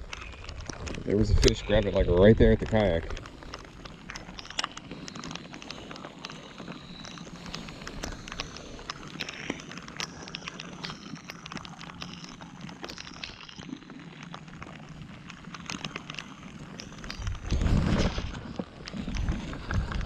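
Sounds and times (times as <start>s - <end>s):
raindrops tapping on kayak: 0.0s - 20.0s.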